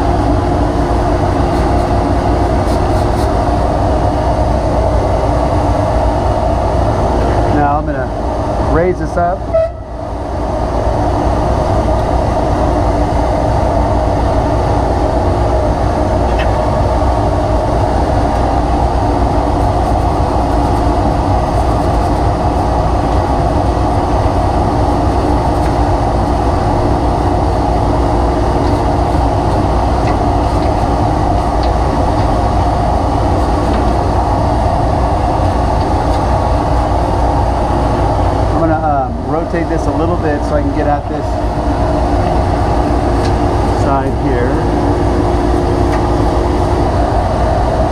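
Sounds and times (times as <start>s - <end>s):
vacuum running: 0.0s - 47.9s.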